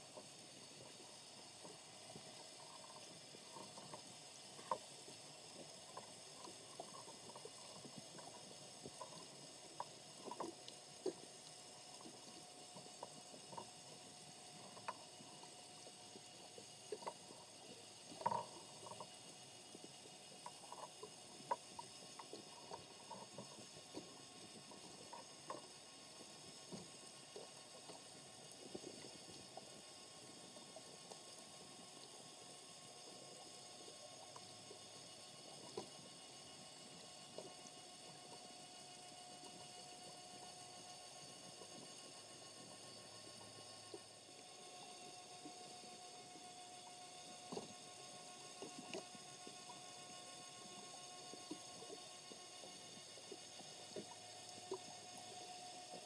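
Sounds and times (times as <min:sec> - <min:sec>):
underwater hiss and hum: 0:00.0 - 0:56.0.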